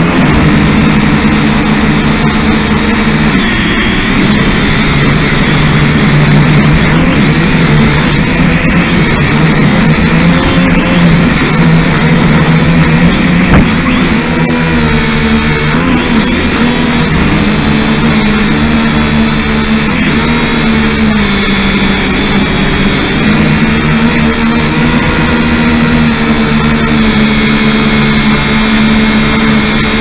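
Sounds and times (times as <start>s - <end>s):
quadcopter propellers buzzing: 0.0s - 30.0s.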